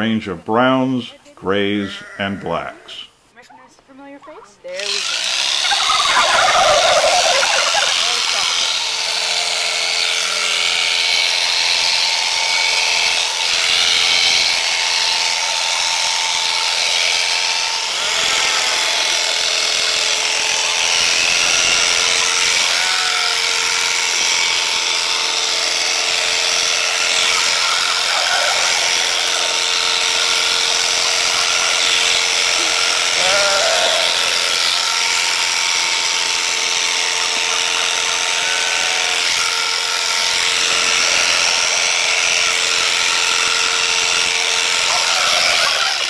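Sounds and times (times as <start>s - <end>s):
electric shearing handpiece humming: 4.7s - 46.0s.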